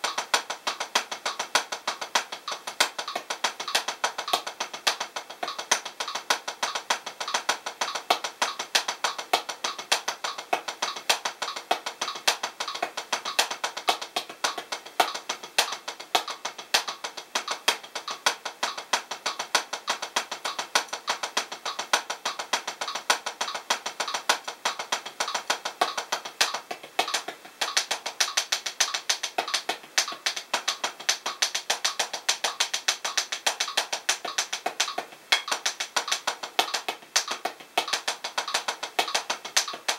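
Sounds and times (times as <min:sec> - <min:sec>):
drumstick taps on practice pad: 0:00.0 - 0:39.9.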